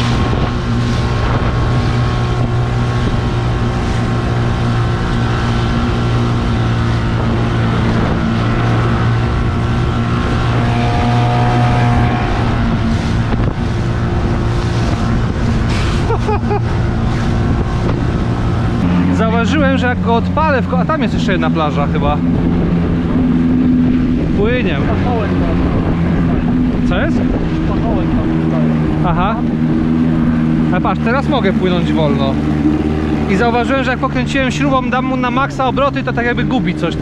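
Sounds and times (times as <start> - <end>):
outboard motor running: 0.0 - 37.0
water rushing along hull: 0.0 - 37.0.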